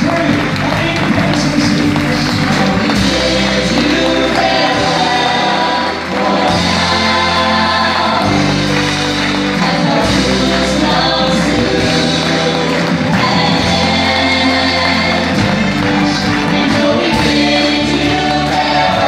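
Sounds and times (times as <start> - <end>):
live band playing: 0.0 - 19.0.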